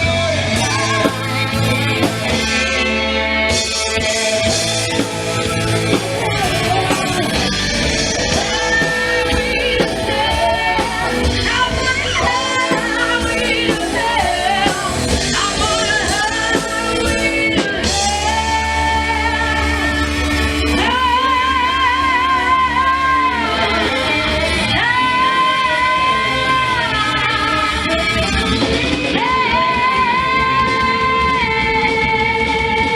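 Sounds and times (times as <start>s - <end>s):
guitar: 0.0s - 32.9s
heavy bass line: 0.0s - 32.9s
person singing with vibrato: 0.0s - 32.9s.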